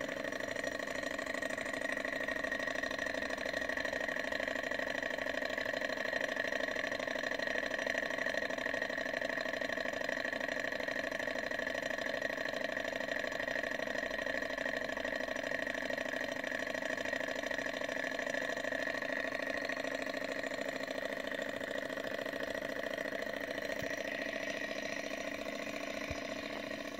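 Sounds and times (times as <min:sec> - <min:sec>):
model engine humming: 0:00.0 - 0:26.9.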